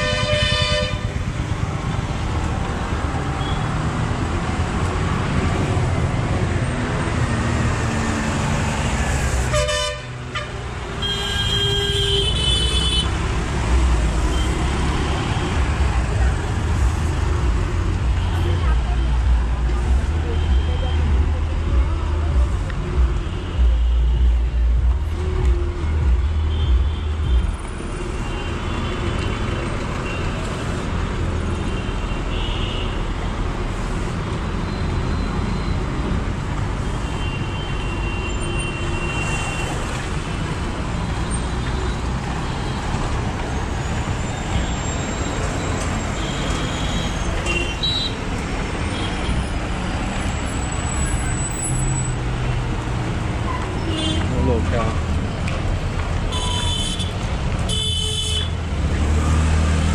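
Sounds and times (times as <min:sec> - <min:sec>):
passing traffic: 0:00.0 - 0:59.9.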